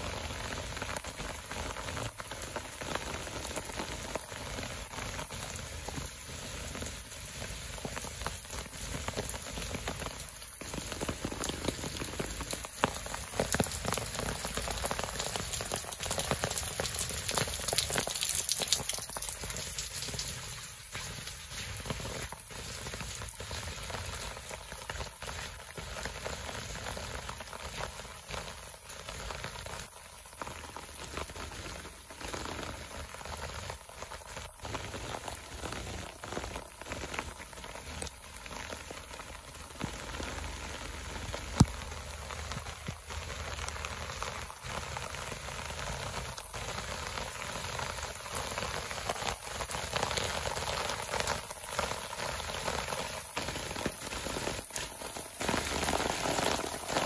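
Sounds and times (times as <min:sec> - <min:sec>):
rain on paving and foliage: 0:00.0 - 0:57.0.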